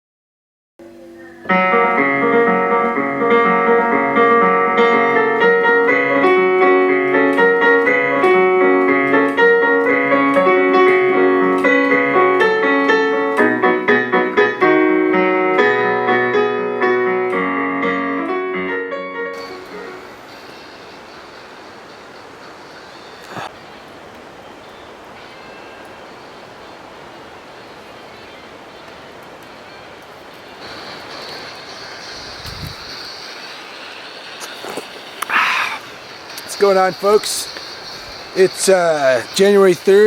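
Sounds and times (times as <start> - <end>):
piano music with held chords: 0.8 - 23.4, 24.7 - 40.0.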